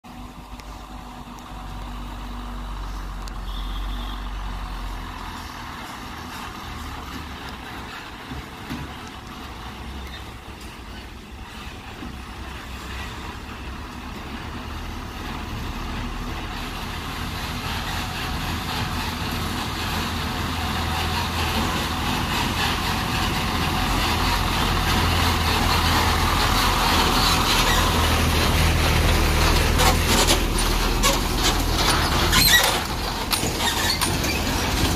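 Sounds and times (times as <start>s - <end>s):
truck diesel engine passing: 0.1s - 34.9s.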